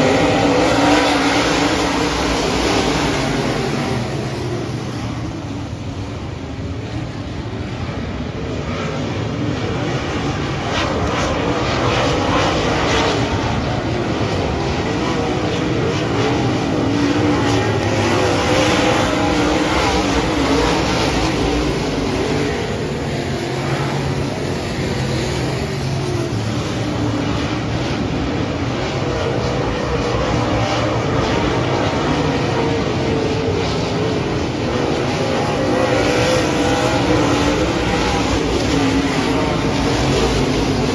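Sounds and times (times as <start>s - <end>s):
race car engines racing: 0.0s - 40.9s.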